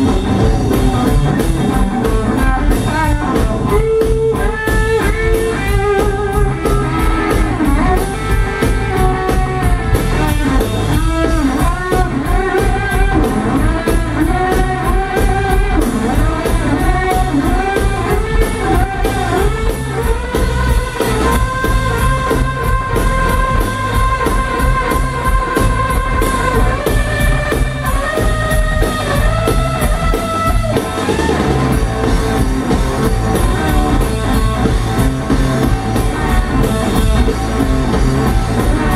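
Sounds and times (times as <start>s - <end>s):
drum kit beat: 0.0s - 38.9s
electric bass: 0.0s - 38.9s
electric guitar lead lines: 0.0s - 38.9s.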